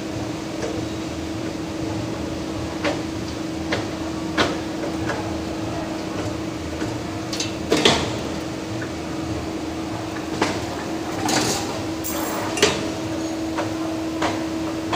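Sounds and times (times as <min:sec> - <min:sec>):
factory machinery hum: 0:00.0 - 0:14.9.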